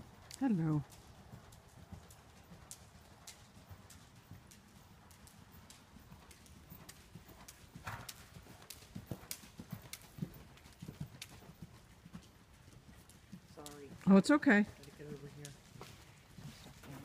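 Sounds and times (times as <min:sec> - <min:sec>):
horse hoofbeats cantering: 0:00.0 - 0:17.0.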